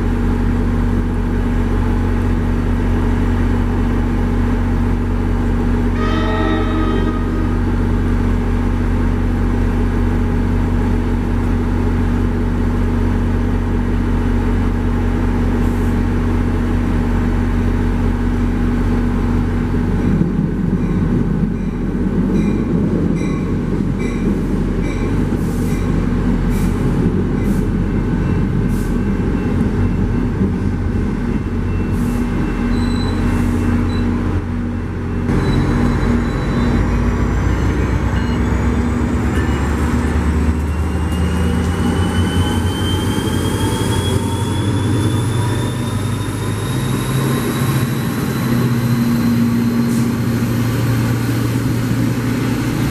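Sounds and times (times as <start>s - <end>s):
diesel train rumble: 0.0s - 52.9s.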